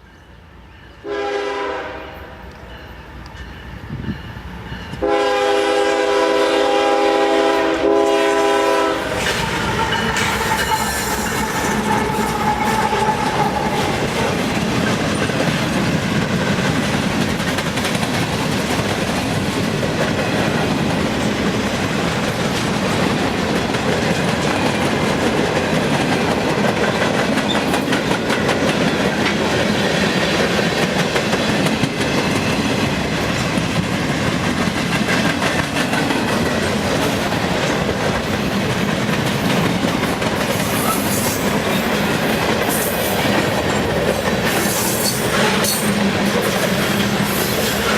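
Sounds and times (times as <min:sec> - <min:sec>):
train wheels clattering over rail joints: 0:09.1 - 0:47.9.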